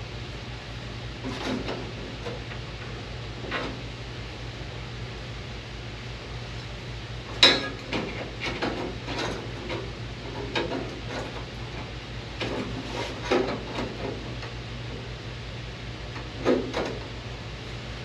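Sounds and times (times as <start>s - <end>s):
low shop hum: 0.0s - 18.0s.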